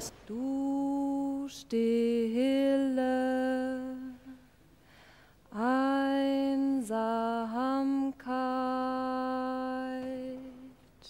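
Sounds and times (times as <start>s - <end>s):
woman singing long-held notes: 0.0s - 4.5s, 5.5s - 10.8s.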